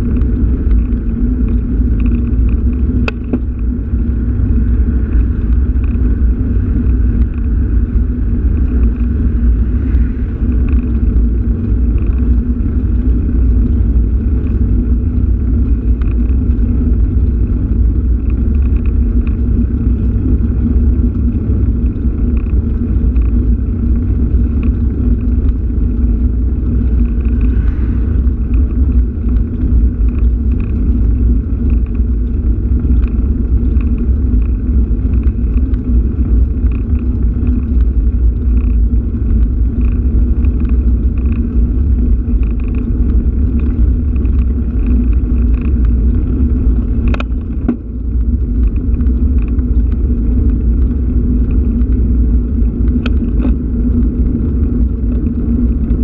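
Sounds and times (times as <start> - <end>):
low hum: 0.0 - 56.0
road noise: 0.0 - 56.0
wind buffeting: 0.0 - 56.0.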